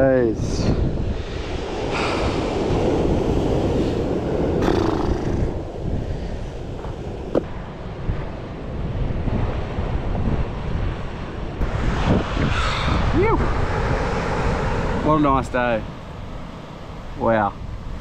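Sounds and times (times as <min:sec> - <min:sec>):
wind buffeting microphone: 0:00.0 - 0:18.0
small waves washing on beach: 0:00.8 - 0:07.2, 0:07.8 - 0:18.0.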